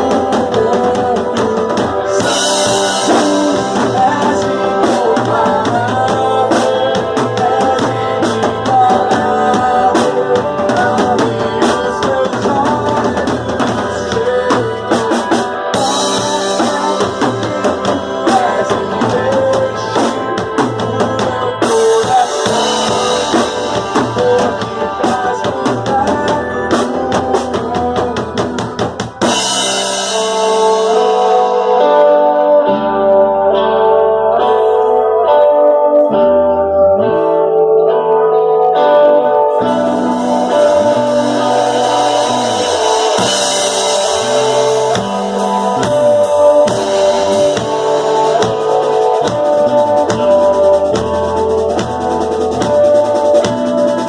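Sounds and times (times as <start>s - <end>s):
drum kit beat: 0.0s - 32.4s, 39.6s - 54.0s
held guitar chords: 0.0s - 54.0s
live band music: 0.0s - 54.0s.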